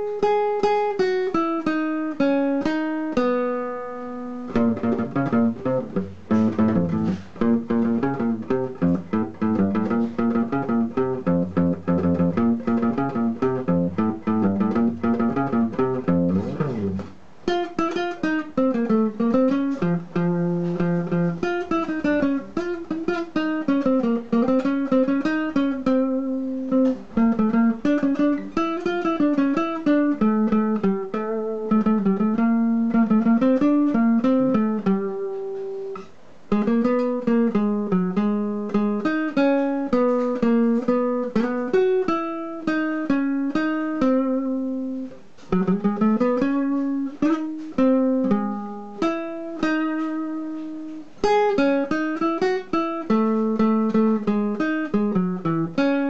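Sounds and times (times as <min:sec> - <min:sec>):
guitar instrumental melody: 0:00.0 - 0:56.0.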